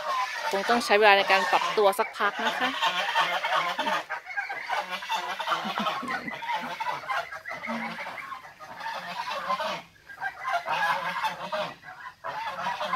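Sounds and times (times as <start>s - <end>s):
young geese honking: 0.0s - 12.9s.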